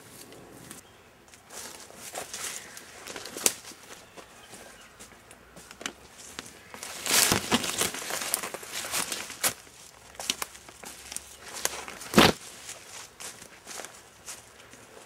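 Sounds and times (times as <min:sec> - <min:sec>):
footsteps crunching through dry leaves: 0:01.4 - 0:15.0.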